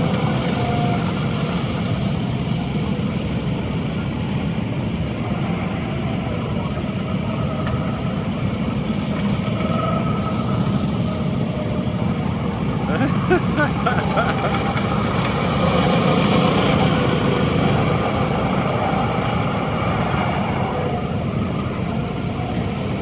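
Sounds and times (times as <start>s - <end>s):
go-kart engines running: 0.0s - 23.0s.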